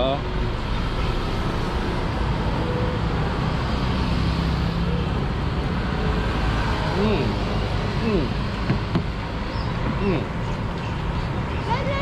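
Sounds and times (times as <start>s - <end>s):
passing road traffic: 0.0s - 12.0s.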